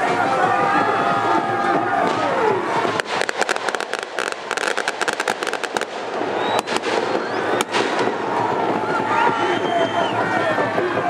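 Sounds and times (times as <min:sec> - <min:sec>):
firecrackers popping: 0:00.0 - 0:11.0.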